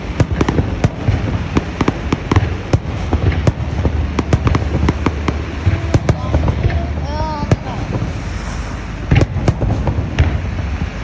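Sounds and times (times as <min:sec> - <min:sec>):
firecrackers banging and crackling: 0:00.0 - 0:11.0
low rumble: 0:00.0 - 0:11.0.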